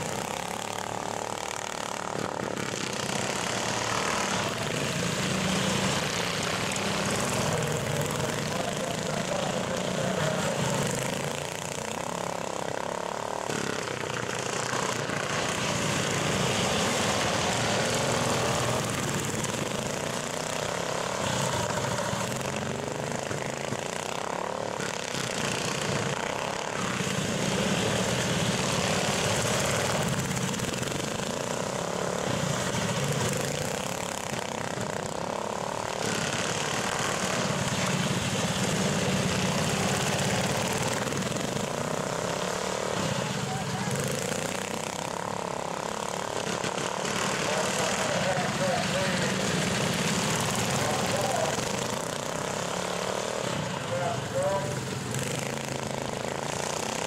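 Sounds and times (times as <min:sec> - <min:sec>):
small engines running hard: 0:00.0 - 0:57.0.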